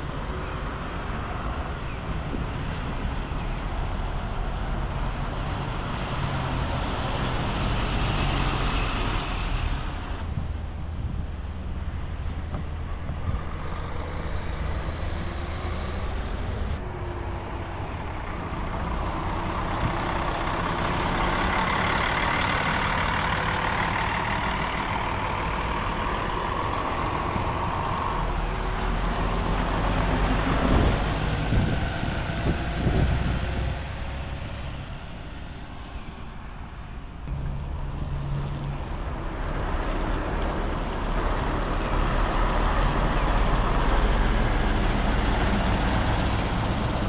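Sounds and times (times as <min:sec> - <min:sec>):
bus engine drone: 0:00.0 - 0:47.0
tyre and road noise: 0:00.0 - 0:47.0.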